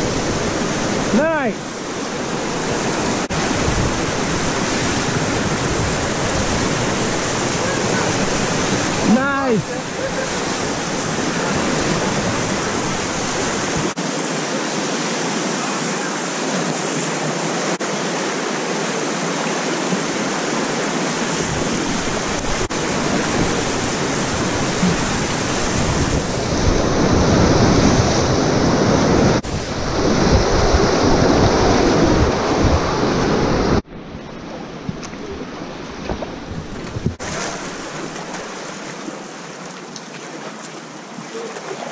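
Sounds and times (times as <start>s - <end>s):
whitewater rapids rushing: 0.0s - 33.8s
flat water: 0.0s - 41.9s.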